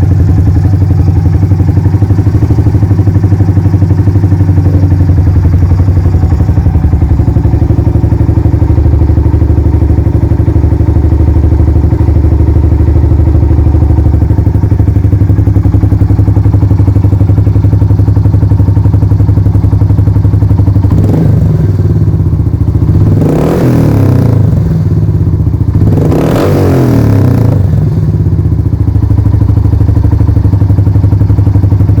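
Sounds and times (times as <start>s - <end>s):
motorcycle engine idling loudly: 0.0s - 32.0s.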